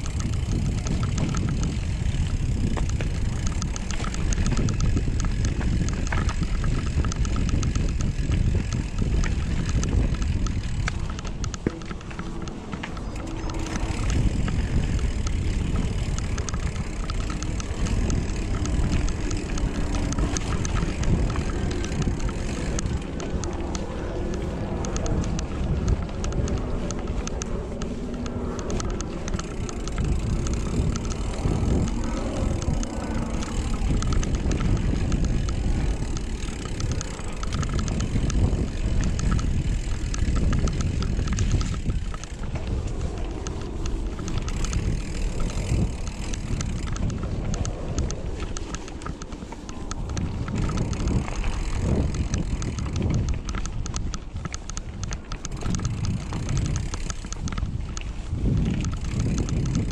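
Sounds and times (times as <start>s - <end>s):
bike rattling over bumps: 0.0s - 59.9s
bike tyres rolling on dirt: 0.0s - 59.9s
wind on microphone: 0.0s - 59.9s.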